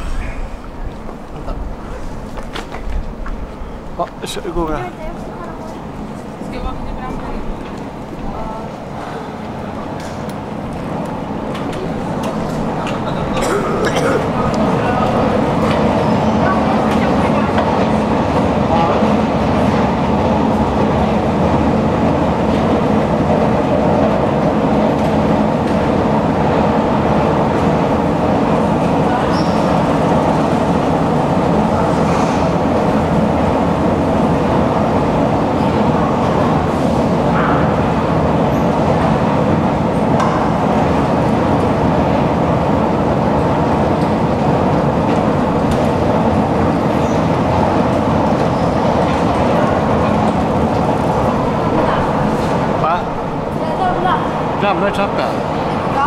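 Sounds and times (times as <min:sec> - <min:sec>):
escalator hum and rumble: 0:00.0 - 0:56.0.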